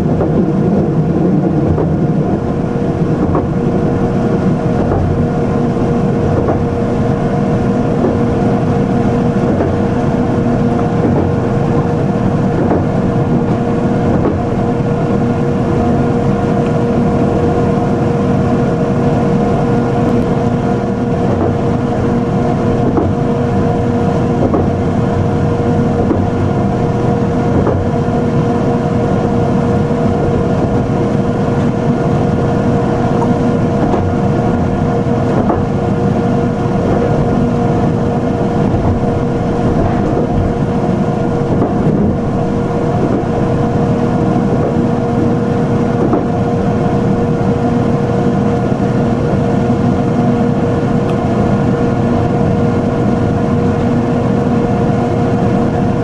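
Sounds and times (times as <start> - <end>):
electric train traction hum: 0.0 - 56.0
wheels rumbling on rail: 0.0 - 56.0.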